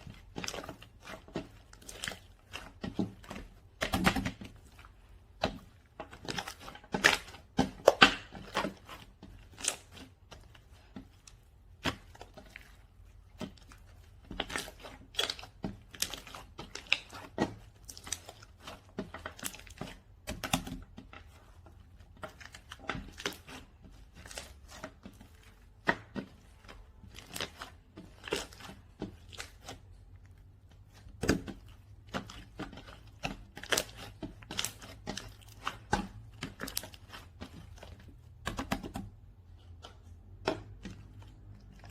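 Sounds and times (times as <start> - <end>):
slime squished by hand: 0.0 - 41.9.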